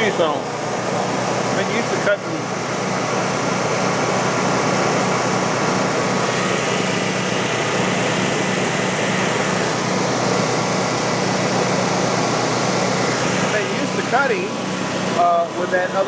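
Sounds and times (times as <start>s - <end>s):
band sawmill cutting log: 0.0s - 16.0s.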